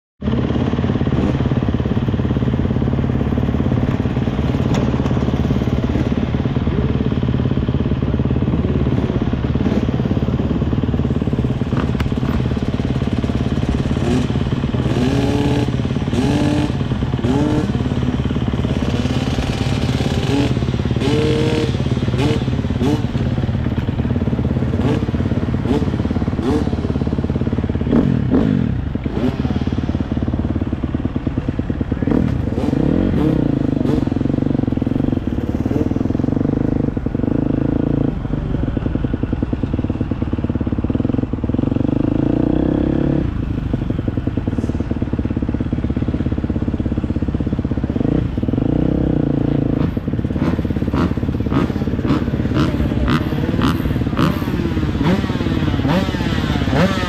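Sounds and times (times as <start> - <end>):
motocross bike engine revving: 0.3 - 46.1, 47.2 - 57.0.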